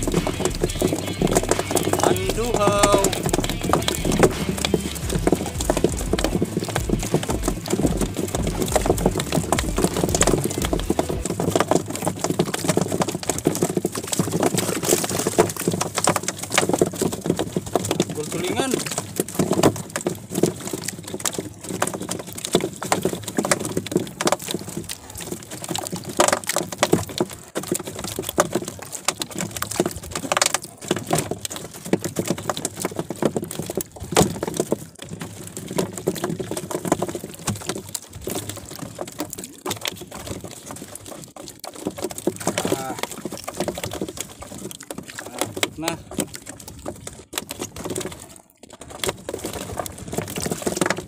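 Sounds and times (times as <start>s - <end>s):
water splashing around boat: 0.0s - 51.0s.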